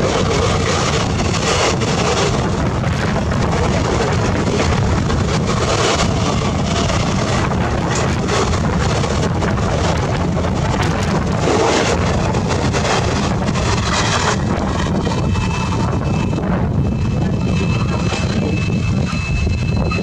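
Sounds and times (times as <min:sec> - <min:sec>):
train wheels on rails: 0:00.0 - 0:20.0
wind on microphone: 0:00.0 - 0:20.0.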